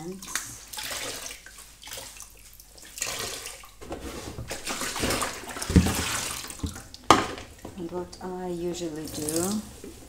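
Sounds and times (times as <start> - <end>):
water pouring into sink: 0.0 - 10.0
water splashing and dripping: 0.0 - 10.0.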